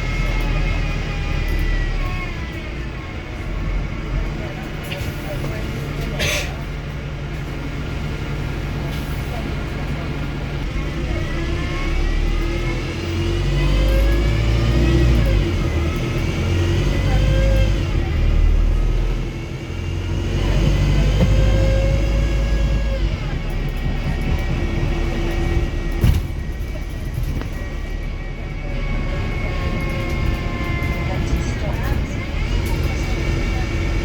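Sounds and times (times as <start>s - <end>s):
bus engine whine shifting gears: 0.0s - 34.0s.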